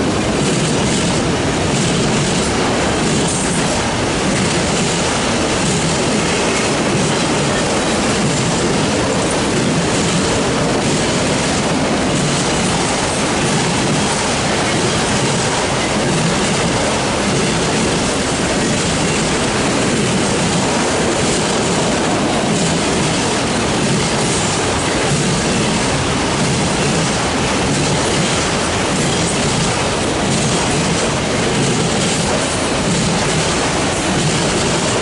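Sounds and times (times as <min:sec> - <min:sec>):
steel wheels on rails: 0:00.0 - 0:35.0.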